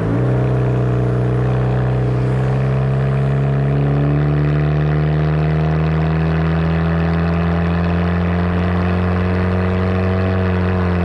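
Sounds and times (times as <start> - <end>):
car engine drone while driving: 0.0 - 11.0.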